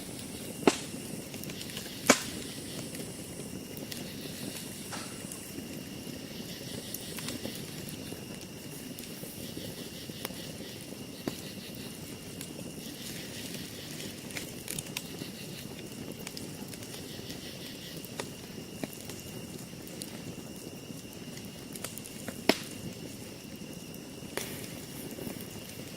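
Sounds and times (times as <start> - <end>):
campfire crackling and hissing: 0.0 - 25.9
sharp pops of fire: 0.0 - 25.9.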